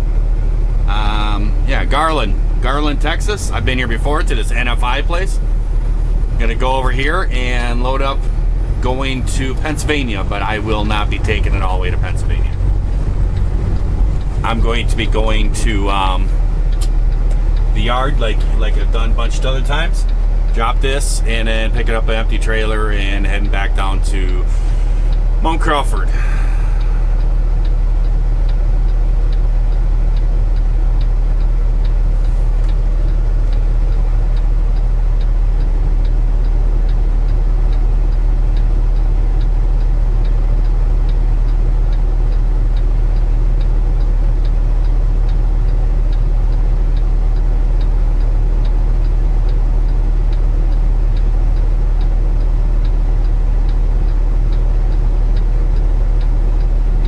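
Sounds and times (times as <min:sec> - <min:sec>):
diesel engine drone: 0:00.0 - 0:57.0
indicator relay clicking: 0:01.2 - 0:24.4, 0:27.1 - 0:57.0.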